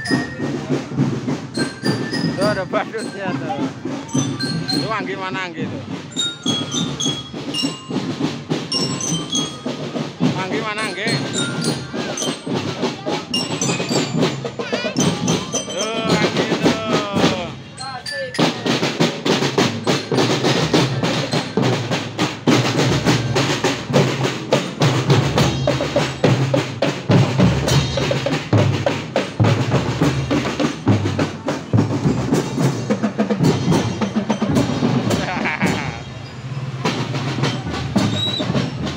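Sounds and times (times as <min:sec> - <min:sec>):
snare drums rolling: 0:00.0 - 0:17.6, 0:18.3 - 0:38.9
bass drums beating: 0:00.0 - 0:17.7, 0:18.4 - 0:38.9.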